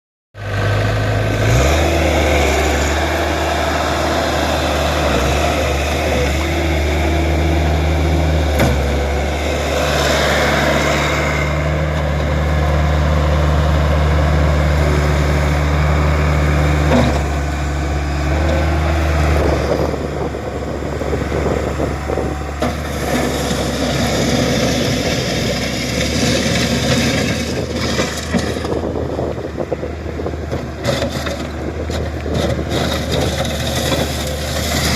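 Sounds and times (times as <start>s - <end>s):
diesel engine running: 0.4s - 34.9s.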